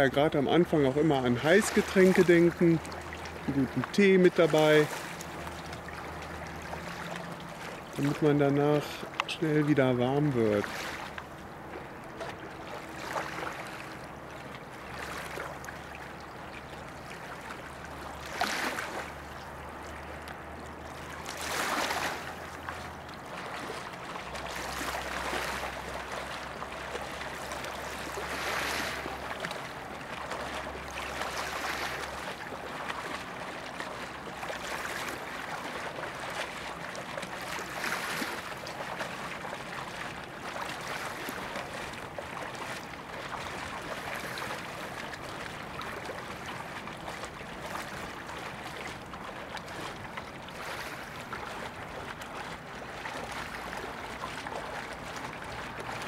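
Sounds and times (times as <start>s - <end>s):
moving water wash: 0.0s - 56.0s
river water lapping and splashing: 0.0s - 56.0s.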